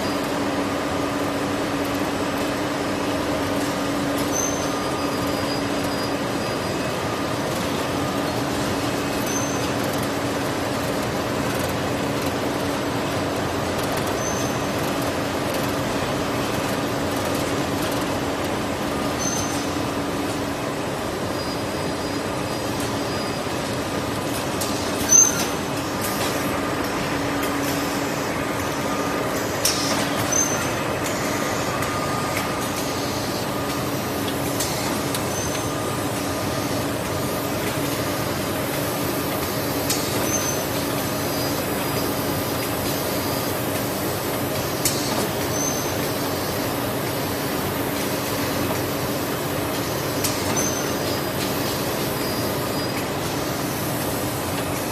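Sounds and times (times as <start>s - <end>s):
packing machine and conveyor noise: 0.0s - 54.9s.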